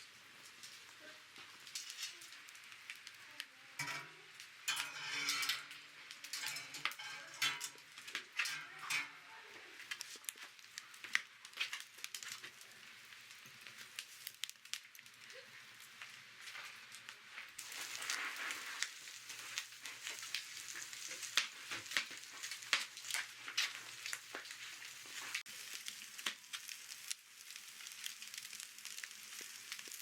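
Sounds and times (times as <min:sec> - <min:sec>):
campfire crackling: 0:00.0 - 0:30.0
fish sizzling on grill: 0:00.0 - 0:30.0.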